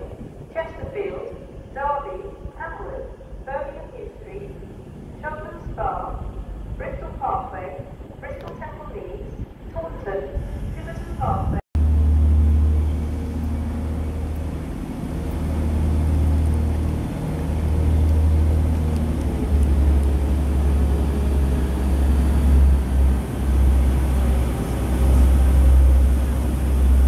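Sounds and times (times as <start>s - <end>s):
faint engine tones: 0.0s - 27.0s
train deep low rumble: 0.0s - 27.0s.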